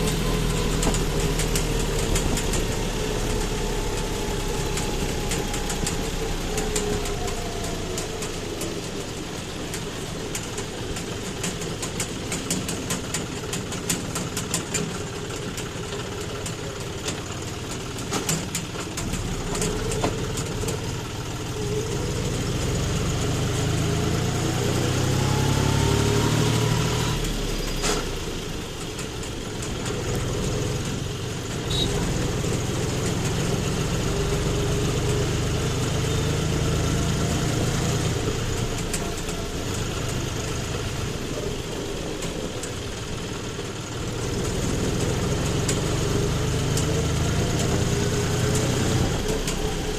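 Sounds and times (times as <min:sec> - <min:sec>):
rapid rattling and clicking: 0:00.0 - 0:22.0, 0:27.5 - 0:33.5, 0:37.2 - 0:49.9
tractor engine running: 0:00.0 - 0:49.9.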